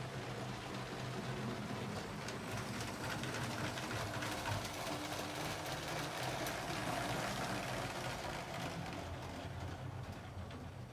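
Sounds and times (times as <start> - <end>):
light clicks of wheels on track: 0.0 - 10.9.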